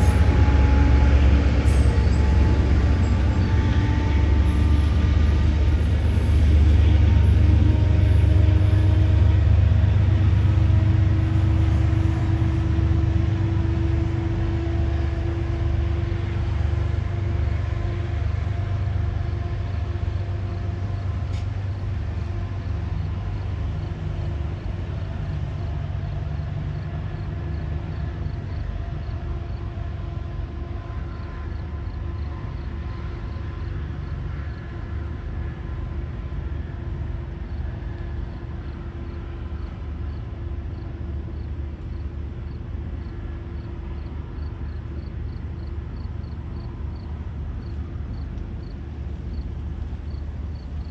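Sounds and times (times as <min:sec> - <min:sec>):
train engine rumble: 0:00.0 - 0:50.9.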